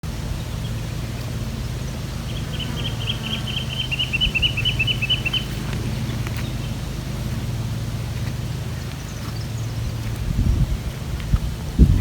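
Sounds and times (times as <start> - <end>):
low engine-like hum: 0.0 - 12.0
bird chirping: 0.2 - 10.2.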